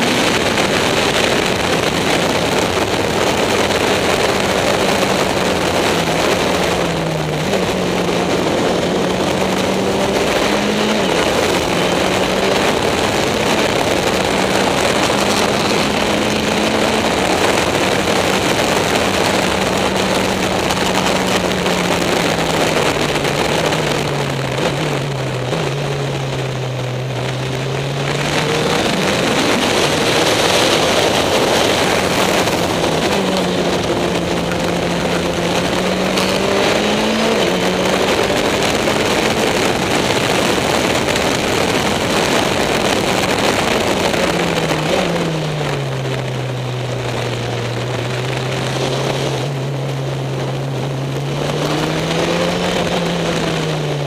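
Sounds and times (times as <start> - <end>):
race car engine: 0.0 - 54.0
wind and road noise: 0.0 - 54.0.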